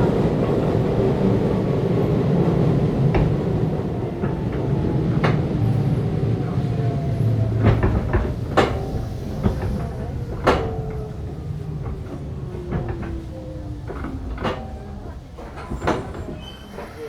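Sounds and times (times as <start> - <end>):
wheels clacking over rail joints: 0.0 - 17.0.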